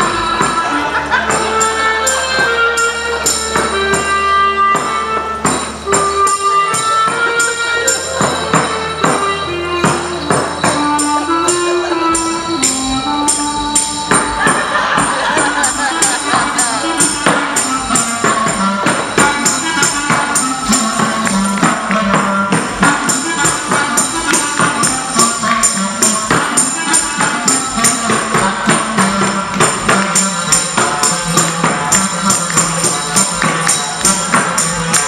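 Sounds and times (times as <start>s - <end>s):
live band playing folk music: 0.0s - 35.0s
tambourine jingling: 4.8s - 35.0s.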